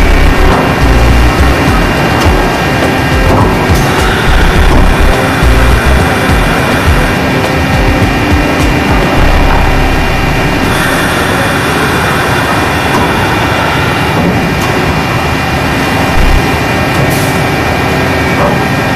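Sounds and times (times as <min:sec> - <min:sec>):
high mechanical whine: 0:00.0 - 0:18.9
machining center running: 0:00.0 - 0:18.9.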